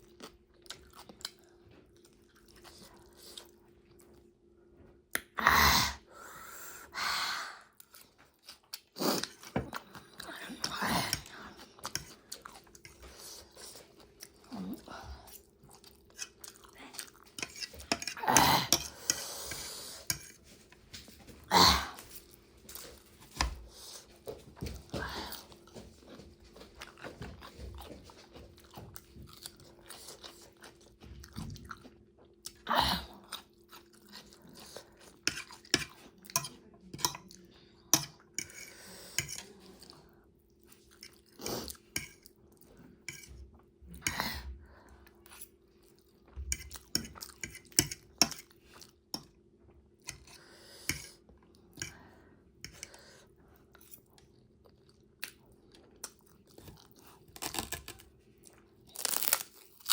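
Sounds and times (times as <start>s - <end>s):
chewing and crunching food: 0.0s - 5.4s, 7.6s - 59.9s.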